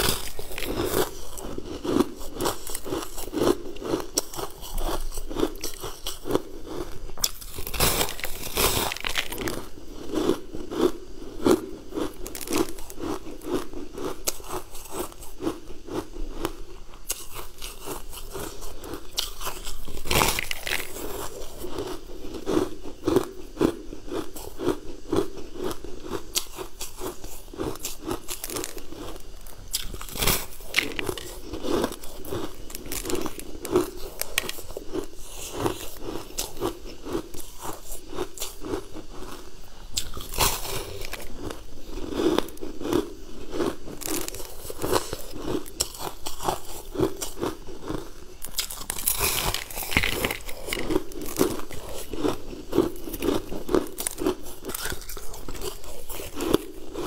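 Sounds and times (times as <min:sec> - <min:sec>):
chewing crunchy ice: 0:00.0 - 0:57.0.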